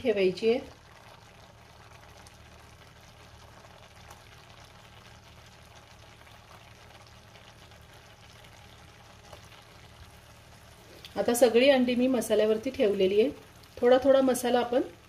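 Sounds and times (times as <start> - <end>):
masala sizzling in a pan: 0.0 - 15.0.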